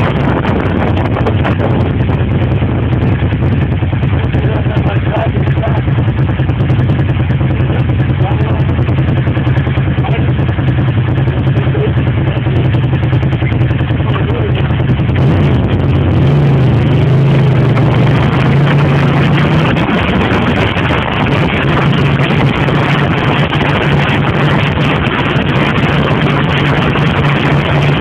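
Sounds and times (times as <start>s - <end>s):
motorcycle engine at road speed: 0.0s - 28.0s
wind noise: 0.0s - 28.0s.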